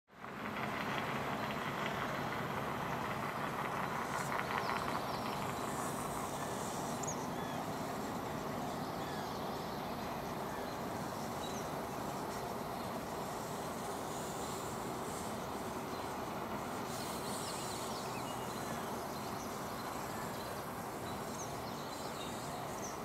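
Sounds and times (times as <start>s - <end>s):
steady rushing noise: 0.2s - 23.0s.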